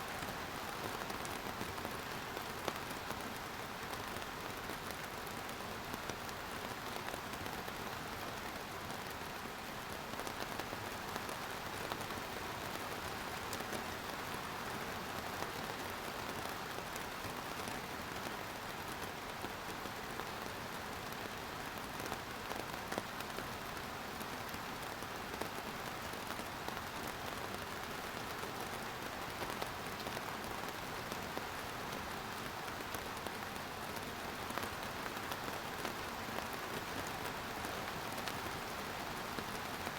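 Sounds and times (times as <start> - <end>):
steady rain: 0.0 - 39.9
raindrops pattering on a surface: 0.1 - 39.9.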